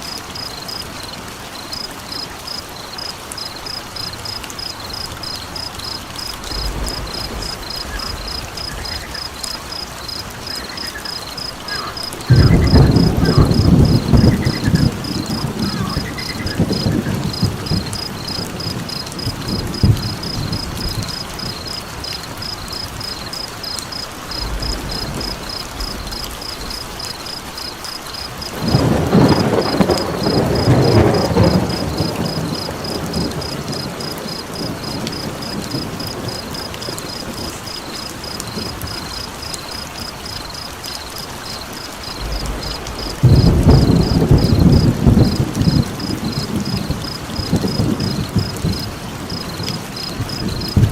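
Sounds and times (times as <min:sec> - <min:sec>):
frogs chirping: 0:00.0 - 0:50.9
steady rain: 0:00.0 - 0:50.9
thunder rolling: 0:04.0 - 0:40.5, 0:42.0 - 0:50.9.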